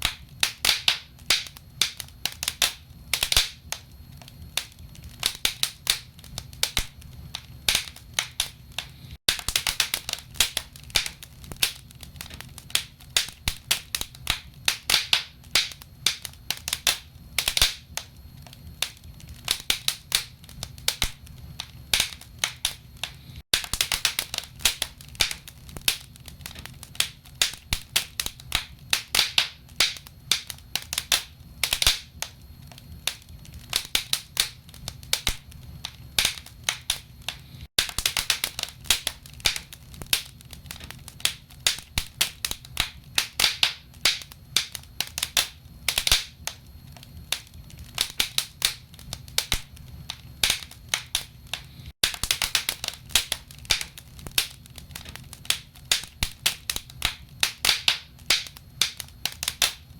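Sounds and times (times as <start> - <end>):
low rumble of flames: 0.0 - 59.9
sharp pops of burning logs: 0.0 - 59.9
wood fire crackling: 0.0 - 59.9.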